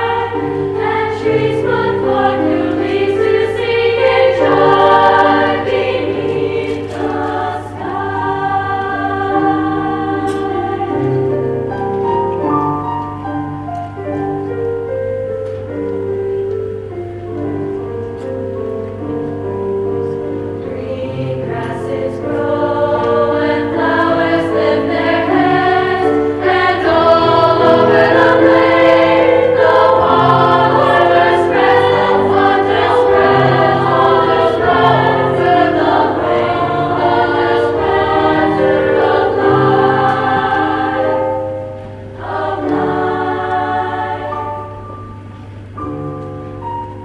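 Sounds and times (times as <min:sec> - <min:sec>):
women's choir singing: 0:00.0 - 0:13.4, 0:20.0 - 0:45.2
piano accompaniment: 0:00.0 - 0:47.0.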